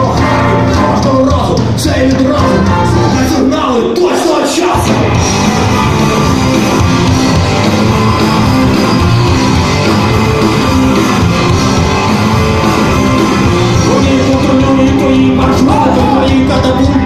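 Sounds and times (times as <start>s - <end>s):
distorted electric guitar: 0.0s - 17.0s
rock band playing: 0.0s - 17.0s.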